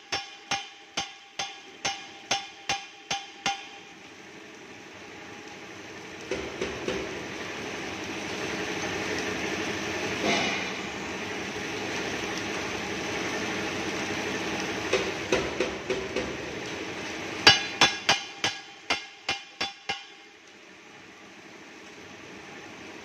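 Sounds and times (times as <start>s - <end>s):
welding machine running: 0.0s - 23.0s.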